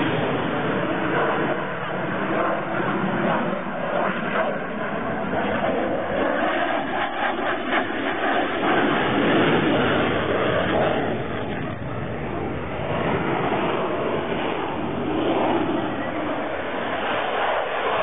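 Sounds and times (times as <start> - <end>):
fighter jet rushing overhead: 0.0 - 18.0.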